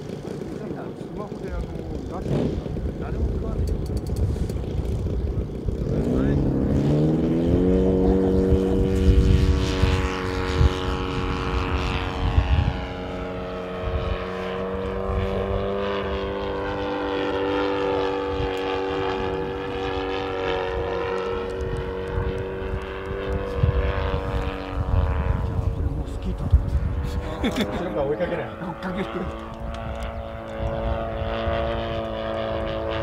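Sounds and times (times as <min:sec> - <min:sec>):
model airplane engine at high throttle: 0:00.0 - 0:33.0.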